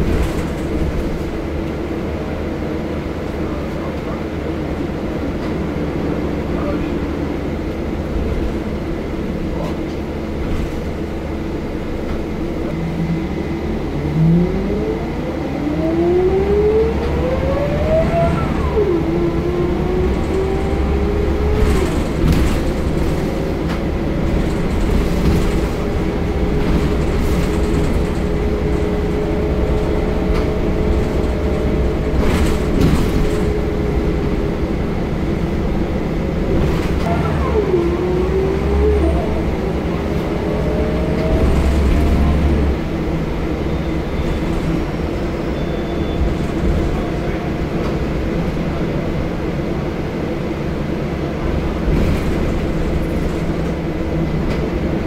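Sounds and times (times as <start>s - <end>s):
bus body rattles: 0.0s - 12.8s, 18.0s - 37.8s, 39.0s - 55.0s
bus diesel engine drone: 0.0s - 55.0s.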